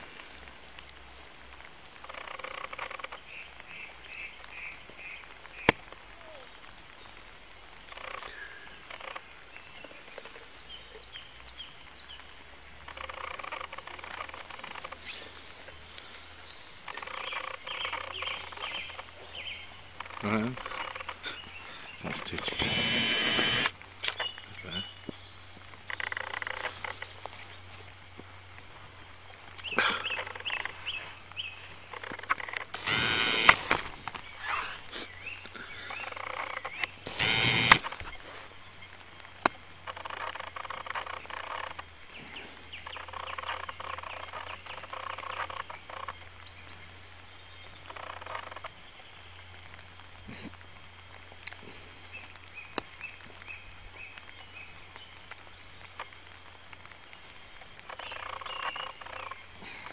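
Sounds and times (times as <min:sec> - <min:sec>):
birds calling and chirping: 0:00.0 - 0:59.9.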